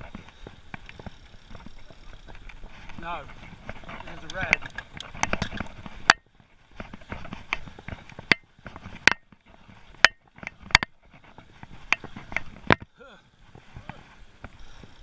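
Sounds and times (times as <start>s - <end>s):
bike rattling over wooden planks: 0.0s - 15.0s.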